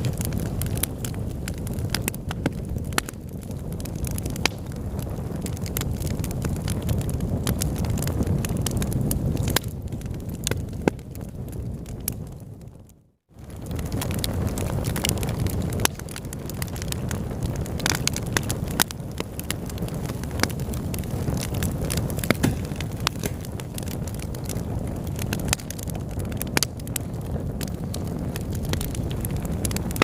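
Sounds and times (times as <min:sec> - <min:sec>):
fire crackling and popping: 0:00.0 - 0:30.0
fire flames rumbling: 0:00.0 - 0:30.0.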